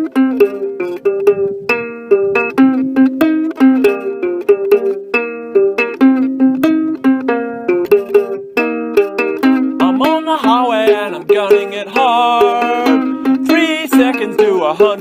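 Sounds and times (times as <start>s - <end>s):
ukulele plucked chords: 0.0s - 15.0s
wavering higher melody: 0.0s - 15.0s.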